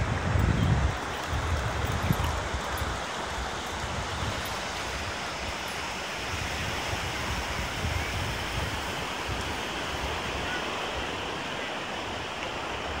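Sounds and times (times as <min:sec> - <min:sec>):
wind gusting on microphone: 0:00.0 - 0:13.0
ocean surf breaking: 0:02.6 - 0:13.0.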